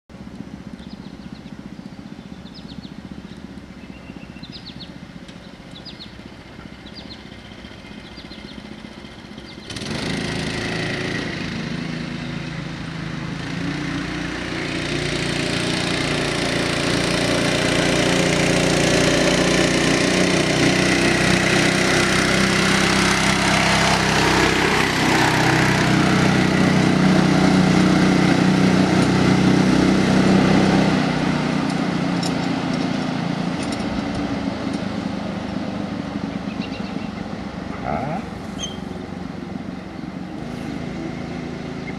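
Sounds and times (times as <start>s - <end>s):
truck engine driving by: 0.1s - 41.9s.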